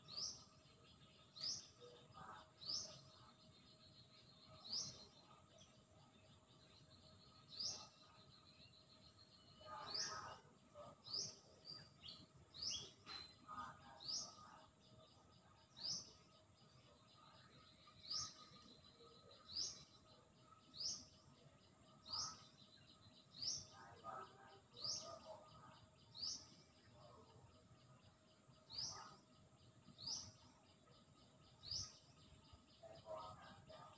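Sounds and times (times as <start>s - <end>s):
outdoor background noise: 0.0s - 33.9s.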